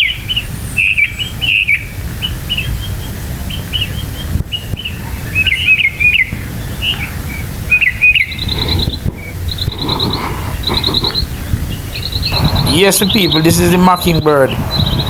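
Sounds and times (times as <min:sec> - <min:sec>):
mockingbird singing: 0:00.0 - 0:15.0
low steady rumble: 0:00.4 - 0:13.8.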